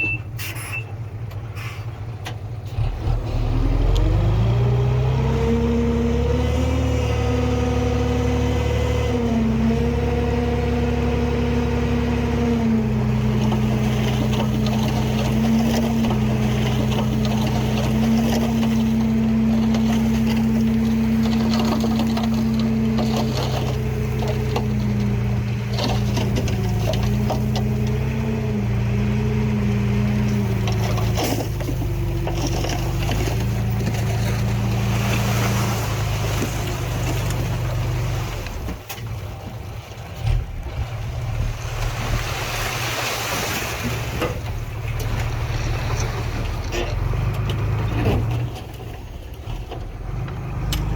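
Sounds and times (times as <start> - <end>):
heavy diesel engine under load: 0.0 - 50.9.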